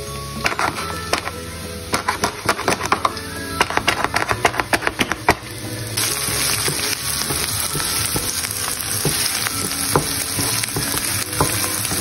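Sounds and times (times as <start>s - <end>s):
onion sizzling in oil: 0.0s - 12.0s
wooden spatula stirring: 0.4s - 12.0s.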